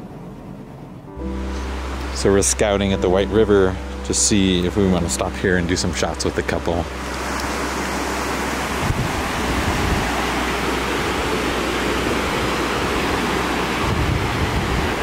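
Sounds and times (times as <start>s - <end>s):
river rushing over stones: 1.2s - 15.0s.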